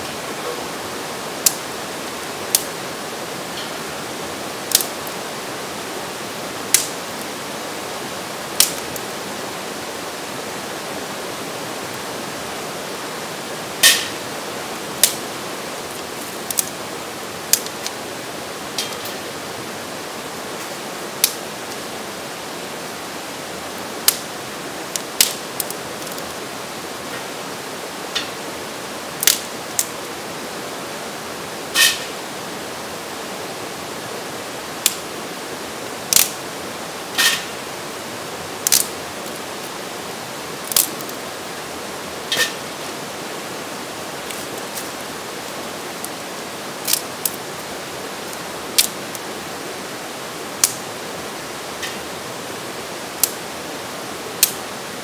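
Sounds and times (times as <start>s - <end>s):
creek rapids rushing: 0.0s - 55.0s.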